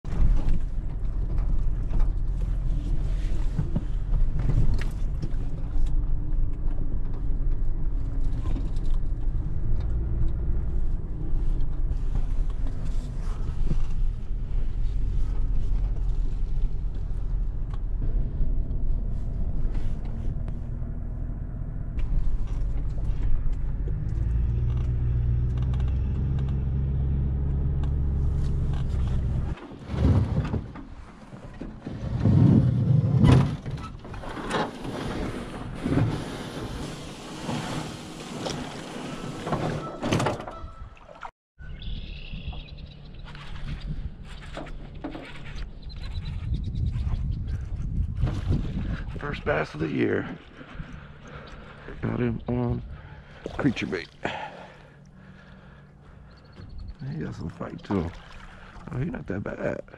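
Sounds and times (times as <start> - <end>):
vehicle engine low rumble: 0.0 - 40.9, 41.6 - 59.9.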